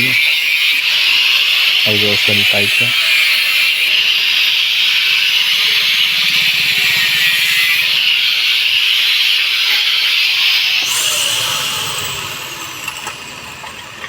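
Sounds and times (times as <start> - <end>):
exhaust pipe being cut with hiss: 0.0 - 14.0.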